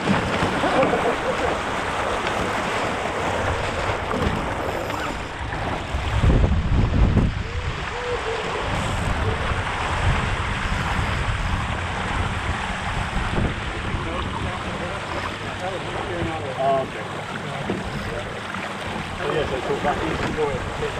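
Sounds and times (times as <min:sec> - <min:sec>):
water rushing past boat bow: 0:00.0 - 0:20.9
wind buffeting microphone: 0:00.0 - 0:20.9.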